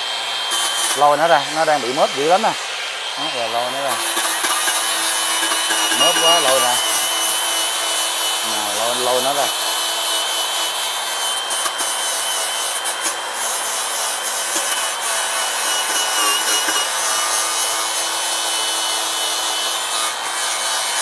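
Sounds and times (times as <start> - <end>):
power tool grinding with high whine: 0.0 - 21.0.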